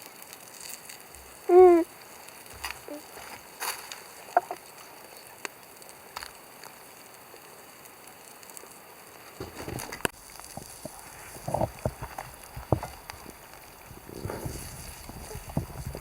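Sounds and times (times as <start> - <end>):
campfire crackling and popping: 0.0 - 16.0
rustling: 0.1 - 6.4, 9.1 - 16.0.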